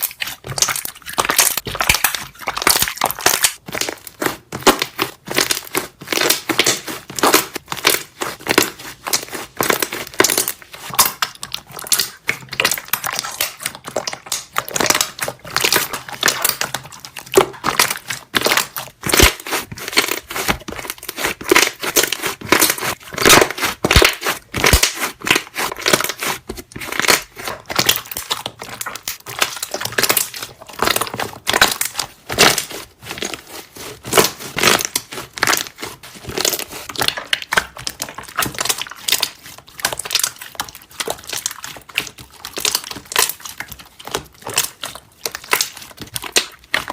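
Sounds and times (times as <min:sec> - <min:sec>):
slime squeezed with bubble pops: 0:00.0 - 0:46.9.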